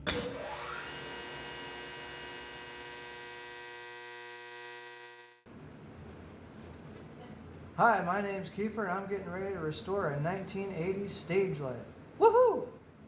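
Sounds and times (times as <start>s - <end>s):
electrical hum of held tones: 0.0s - 13.0s.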